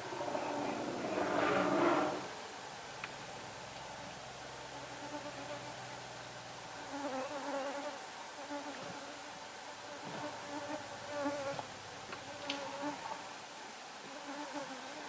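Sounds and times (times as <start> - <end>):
flying insects buzzing: 0.0 - 15.0.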